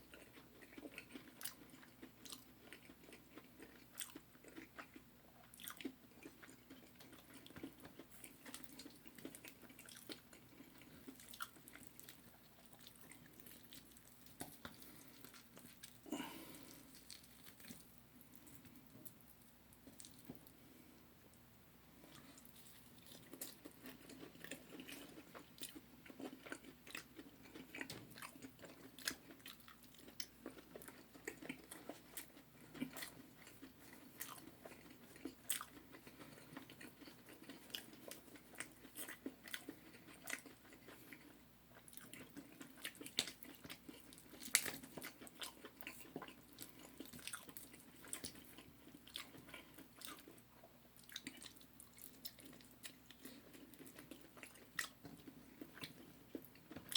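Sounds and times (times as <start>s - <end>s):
chewing and crunching: 0.0s - 20.9s, 22.0s - 56.9s.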